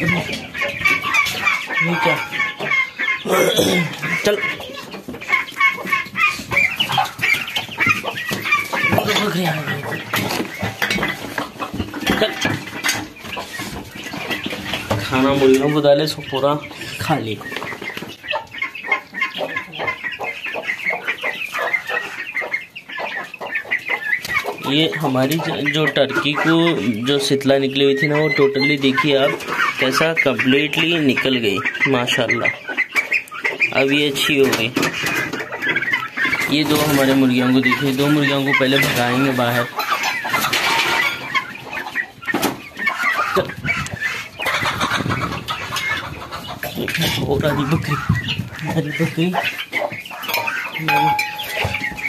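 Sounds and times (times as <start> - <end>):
chickens clucking: 0.0 - 52.0.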